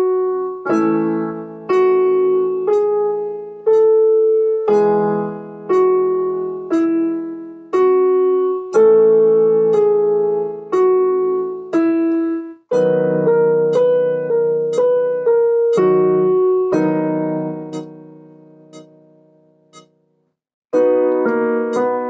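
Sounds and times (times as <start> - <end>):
piano played slowly: 0.0 - 20.0, 20.8 - 22.0.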